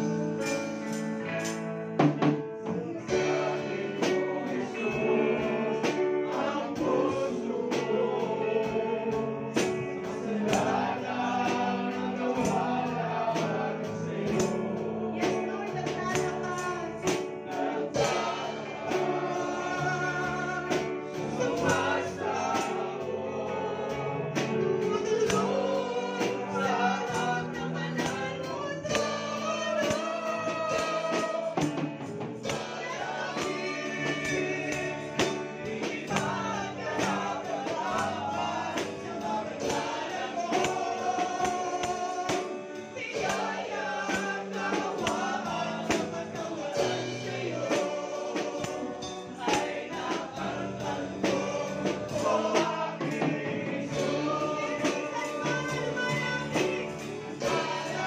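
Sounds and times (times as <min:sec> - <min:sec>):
live band with drums and cymbals: 0:00.0 - 0:58.0.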